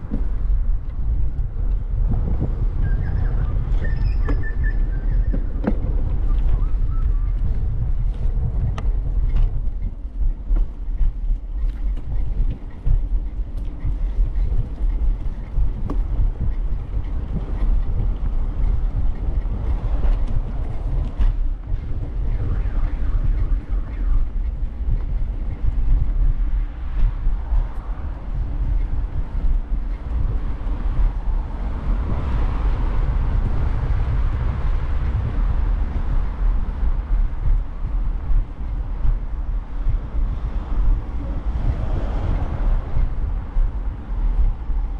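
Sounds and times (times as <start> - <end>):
bicycle tyres on path: 0.0 - 44.9
wind on microphone: 0.0 - 44.9.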